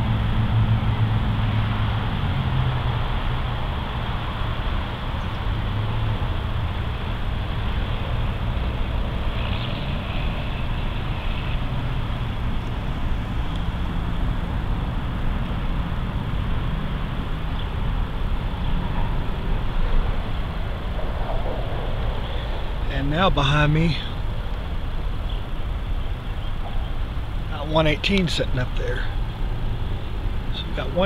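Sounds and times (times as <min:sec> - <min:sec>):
diesel locomotive engines rumbling: 0:00.0 - 0:31.0.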